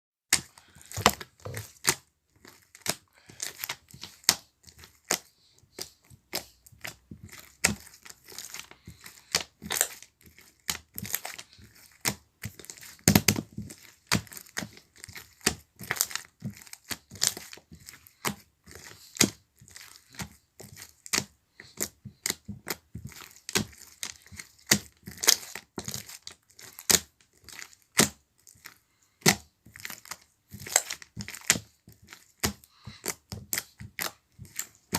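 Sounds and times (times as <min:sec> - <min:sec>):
crunching and crinkling handling: 0:00.3 - 0:34.9.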